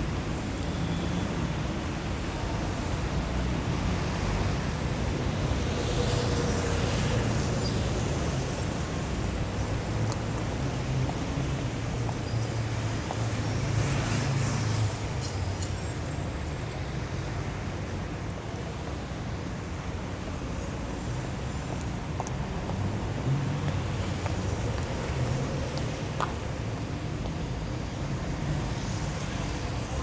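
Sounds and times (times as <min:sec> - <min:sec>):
street traffic passing: 0:00.0 - 0:30.0.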